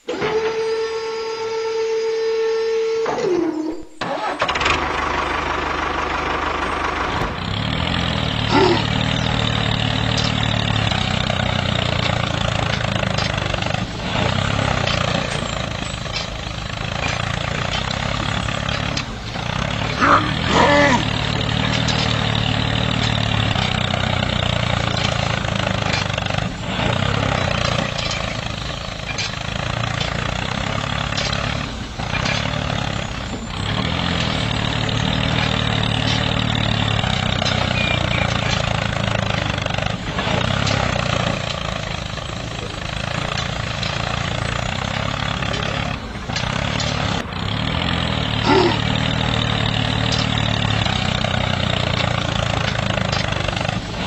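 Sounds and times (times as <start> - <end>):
whirring rattle: 0.0 - 54.0
small motor humming: 4.5 - 54.0.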